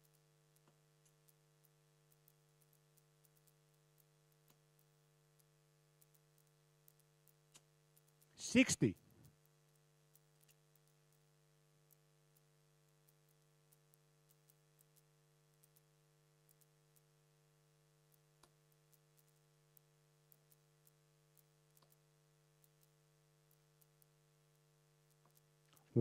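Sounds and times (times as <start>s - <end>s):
faint ticks and clicks: 0.0s - 26.0s.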